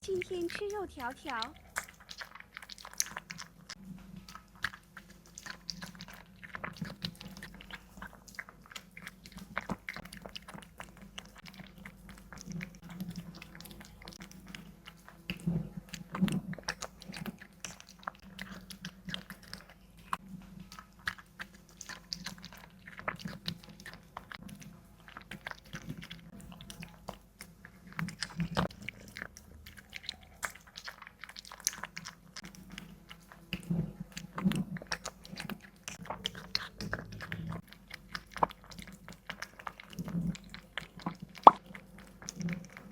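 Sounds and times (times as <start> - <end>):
cat chewing: 0.0 - 42.9.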